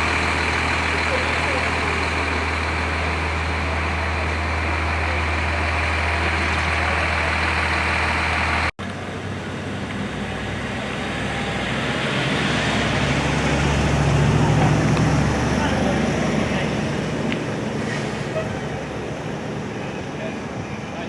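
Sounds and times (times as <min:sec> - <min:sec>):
street traffic noise: 0:00.0 - 0:21.0
truck engine idling: 0:00.0 - 0:21.0.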